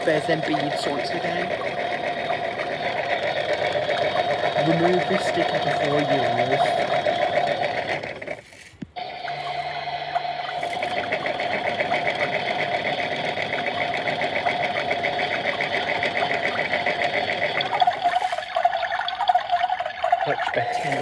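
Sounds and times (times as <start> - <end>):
toy motor whirring and ticking: 0.0 - 21.0.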